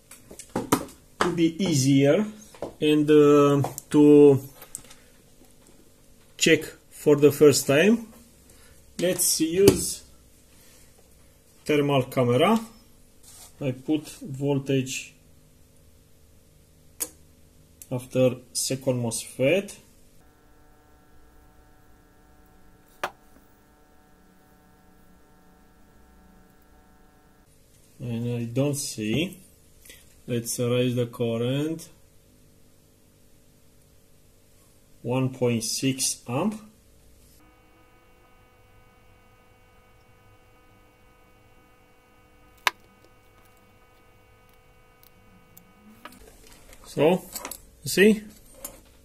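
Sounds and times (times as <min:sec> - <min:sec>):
faint electrical hum: 0:00.0 - 0:49.0.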